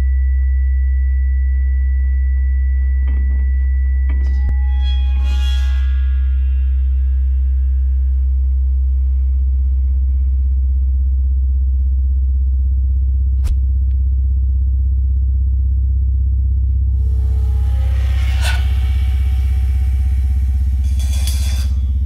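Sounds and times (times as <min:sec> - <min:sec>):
deep electronic drone: 0:00.0 - 0:22.0.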